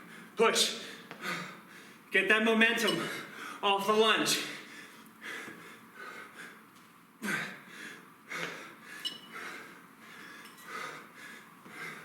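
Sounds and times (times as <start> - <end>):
man breathing heavily: 0.0 - 2.1, 3.0 - 3.6, 4.3 - 12.0.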